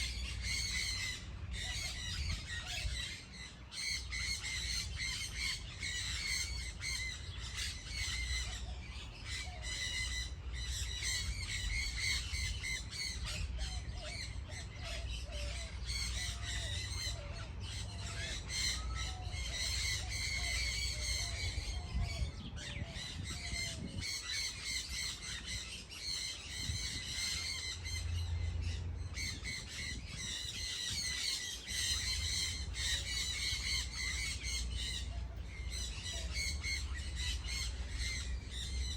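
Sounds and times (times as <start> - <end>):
flock of birds calling: 0.0 - 38.9.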